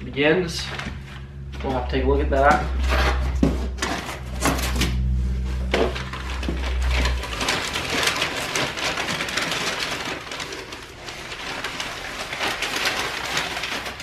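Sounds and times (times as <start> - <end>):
low steady hum: 0.0 - 13.9
packing paper rustling: 2.7 - 14.0.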